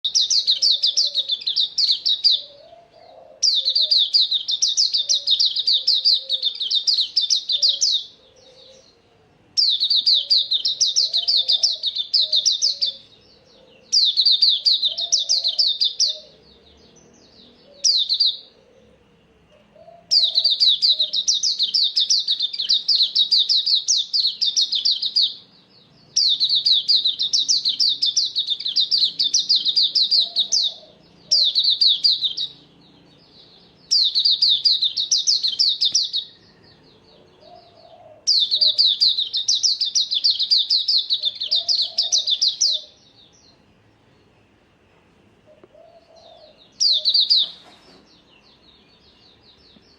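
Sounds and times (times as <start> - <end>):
songbird rapid high chirping: 0.0 - 49.9.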